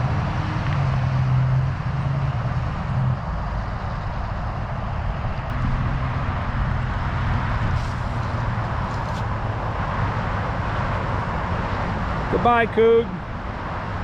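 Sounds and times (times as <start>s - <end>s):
car engine humming: 0.0s - 14.0s
constant rushing noise: 0.0s - 14.0s.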